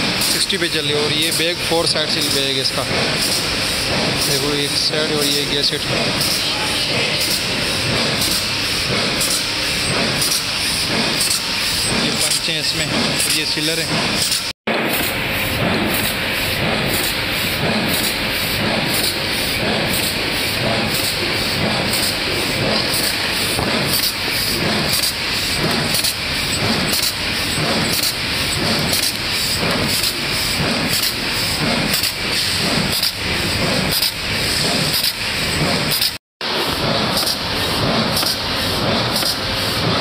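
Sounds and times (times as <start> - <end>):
machine clattering with regular beat: 0.0 - 40.0.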